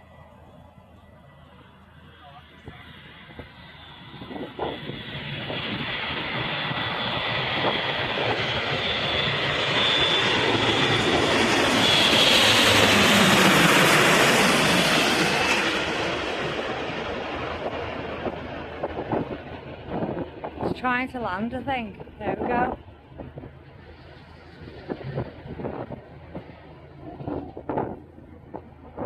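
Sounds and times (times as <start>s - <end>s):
aircraft flying low past: 0.0s - 29.0s.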